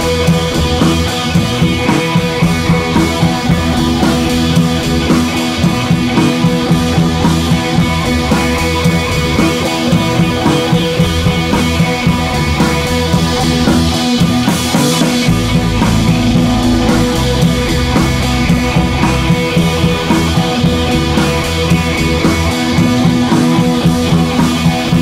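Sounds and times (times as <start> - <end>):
rock music: 0.0 - 25.0.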